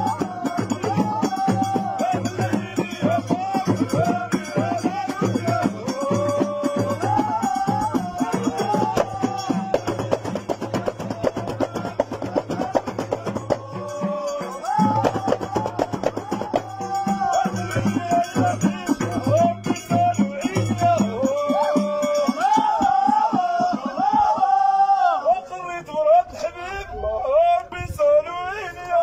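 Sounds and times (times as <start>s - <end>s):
frame drum percussion: 0.0s - 24.8s
man singing: 0.0s - 29.0s.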